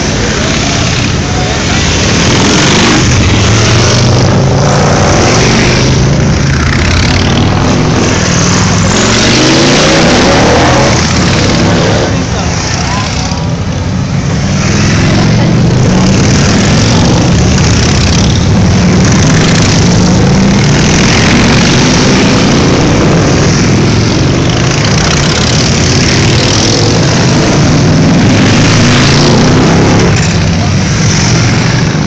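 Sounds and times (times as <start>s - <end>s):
motorcycles riding past: 0.0s - 32.0s.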